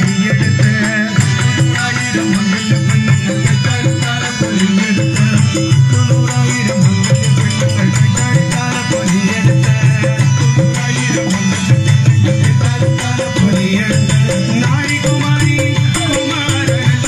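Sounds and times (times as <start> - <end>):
harmonium melody: 0.0 - 17.0
jingling rattling percussion: 0.0 - 17.0.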